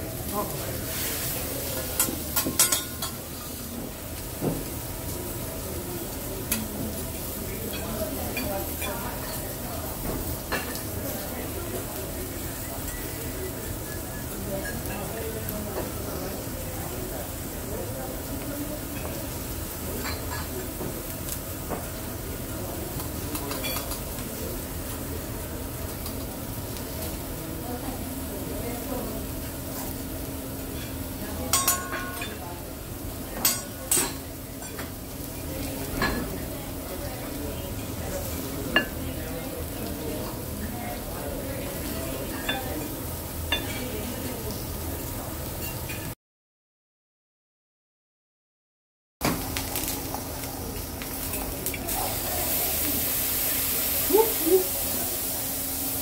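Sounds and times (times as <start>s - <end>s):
food sizzling on a griddle: 0.0s - 46.1s, 49.2s - 56.0s.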